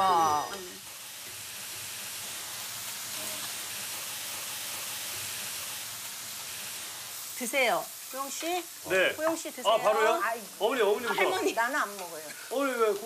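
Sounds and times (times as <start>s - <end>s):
beef sizzling on grill: 0.0s - 13.0s.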